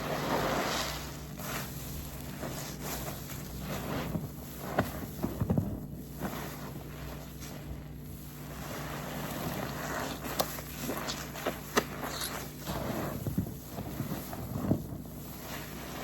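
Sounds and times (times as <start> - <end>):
sponge squelching: 0.0 - 16.0.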